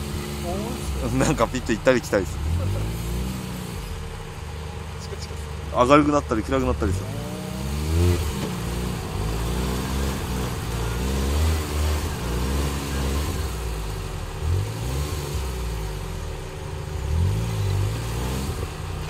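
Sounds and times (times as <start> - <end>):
small engine revving: 0.0 - 5.6, 6.4 - 19.0.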